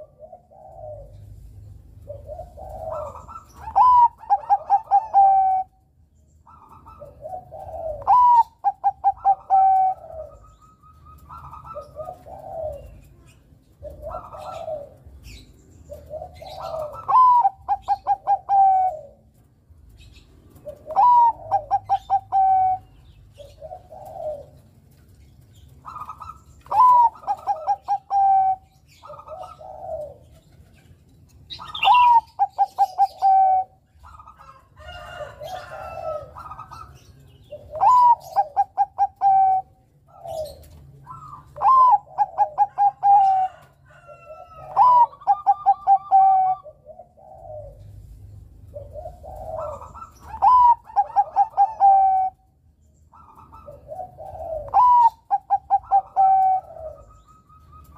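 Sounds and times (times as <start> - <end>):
dove cooing song: 0.0 - 57.9.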